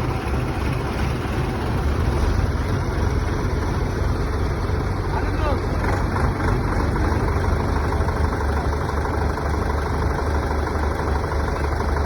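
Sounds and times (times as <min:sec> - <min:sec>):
machinery engine rumbling: 0:00.0 - 0:12.0.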